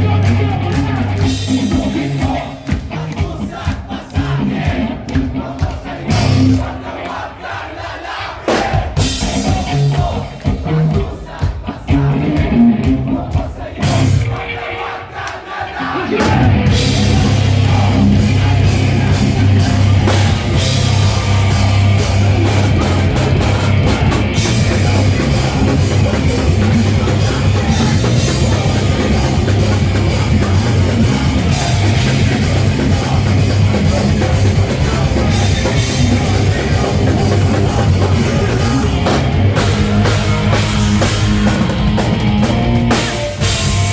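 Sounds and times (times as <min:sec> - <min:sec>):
live rock band playing: 0:00.0 - 0:06.7, 0:08.5 - 0:14.3, 0:16.0 - 0:43.9.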